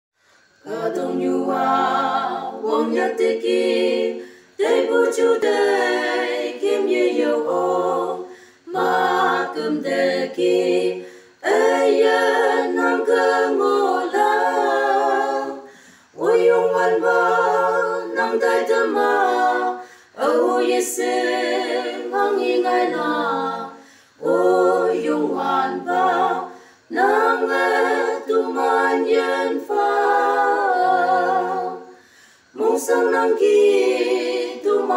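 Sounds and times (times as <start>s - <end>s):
voices singing in harmony: 0.3s - 34.9s.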